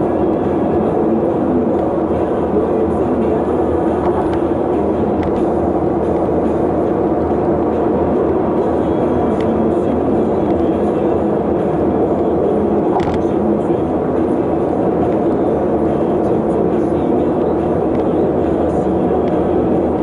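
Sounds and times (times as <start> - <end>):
vehicle rumble with road noise: 0.0 - 20.0.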